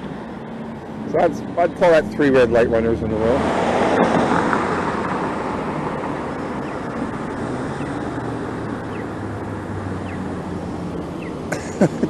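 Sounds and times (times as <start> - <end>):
hum of passing traffic: 0.0 - 12.0.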